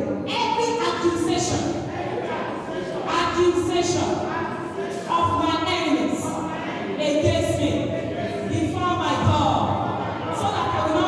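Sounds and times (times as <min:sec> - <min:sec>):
choir singing: 0:01.8 - 0:11.0.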